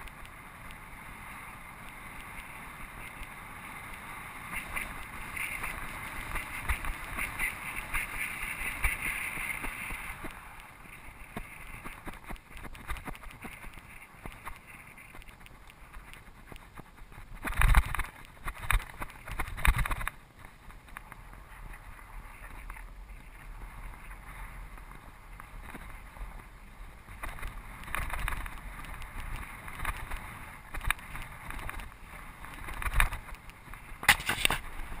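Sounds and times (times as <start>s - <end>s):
bicycle rattling over bumps: 0.0s - 35.0s
wind rushing over microphone: 0.0s - 35.0s.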